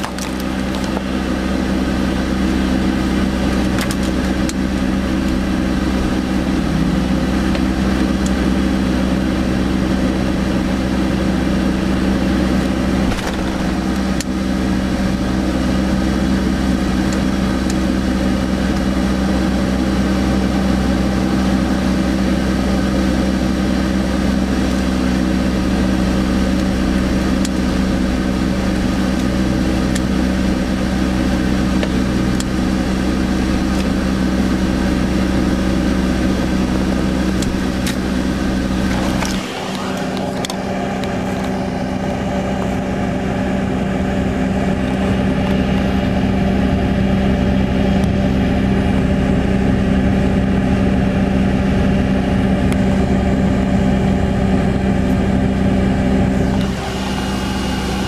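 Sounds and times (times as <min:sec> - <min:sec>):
truck engine running at low speed: 0:00.0 - 0:58.0.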